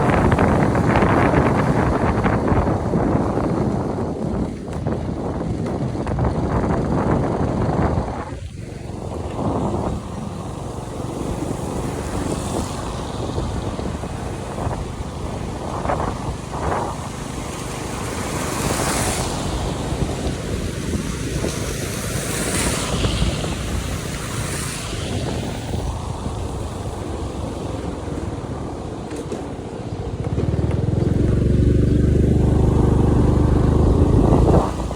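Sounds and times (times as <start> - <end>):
traffic on wet road: 0.0 - 34.9.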